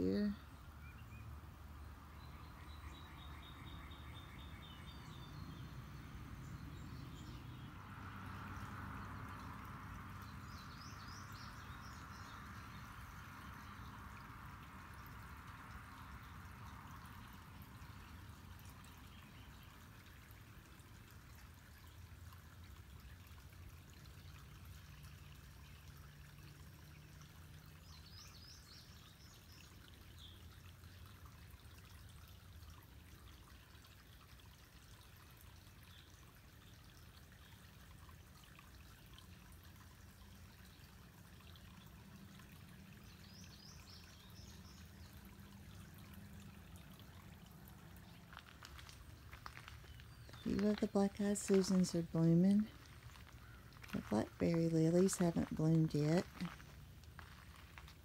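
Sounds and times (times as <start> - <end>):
trickle of running water: 0.0 - 58.0.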